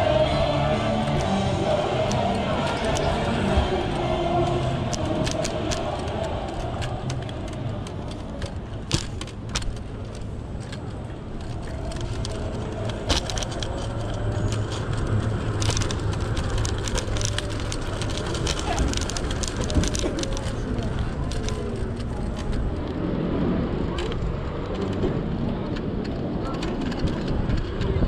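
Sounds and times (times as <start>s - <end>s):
clicks and rattles over bumps: 0.0s - 23.0s, 23.8s - 28.0s
scooter wheels rumbling on pavement: 0.0s - 28.0s.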